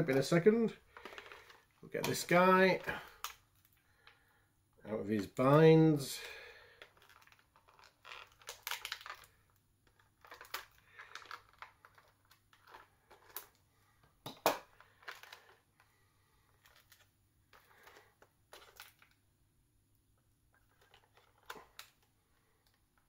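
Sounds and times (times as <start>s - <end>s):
plastic packaging crinkling: 0.0s - 4.1s, 6.2s - 13.6s, 14.4s - 15.8s, 16.4s - 19.3s, 20.2s - 23.0s.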